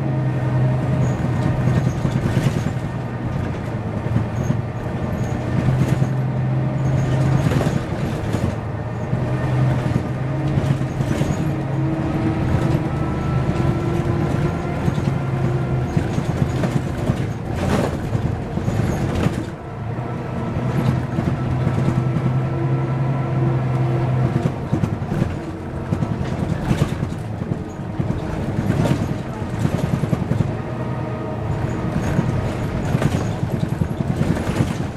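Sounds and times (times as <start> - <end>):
bus engine: 0.0 - 34.9
bodywork knocks and rattles: 0.8 - 19.6, 20.6 - 22.4, 24.2 - 30.6, 31.6 - 34.9.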